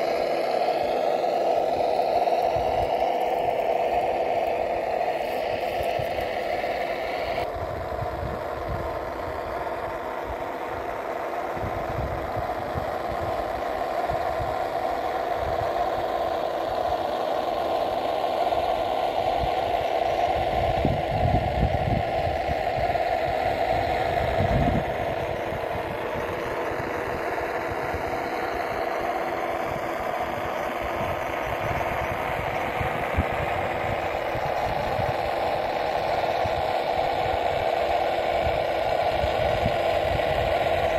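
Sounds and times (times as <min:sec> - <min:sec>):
simulated truck engine through speakers: 0:00.0 - 0:40.9.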